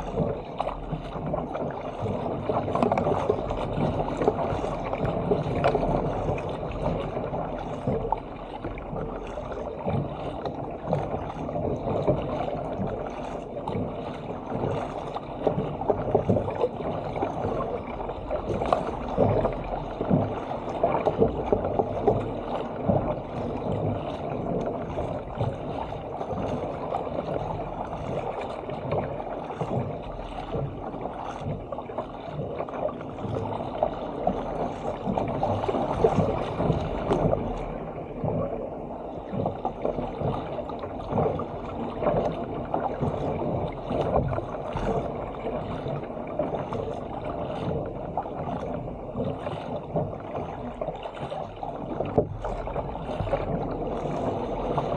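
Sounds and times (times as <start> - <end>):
paddle splashes: 0.0 - 54.9
water splashing along hull: 0.0 - 54.9.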